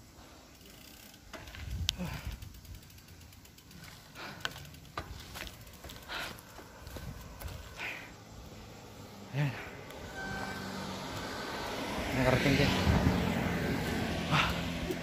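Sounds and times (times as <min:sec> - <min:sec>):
bike clicking and rattling: 0:00.0 - 0:15.0.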